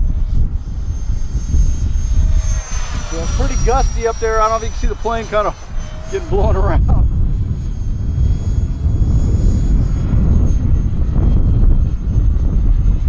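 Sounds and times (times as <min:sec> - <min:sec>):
model jet high whine: 0:00.0 - 0:13.0
wind buffeting microphone: 0:00.0 - 0:13.0.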